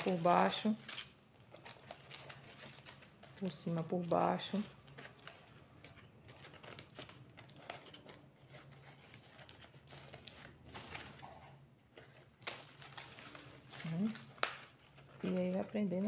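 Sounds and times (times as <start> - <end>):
dry fiber strips rustling: 0.0 - 16.0.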